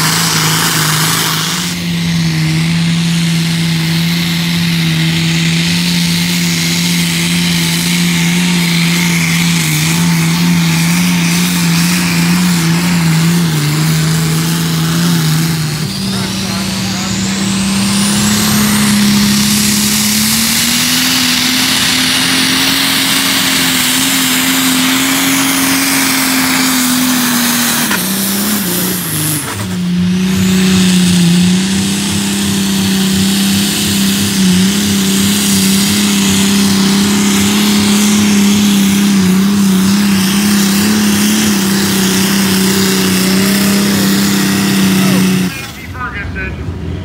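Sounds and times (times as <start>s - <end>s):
tractor engine running hard: 0.0s - 47.0s.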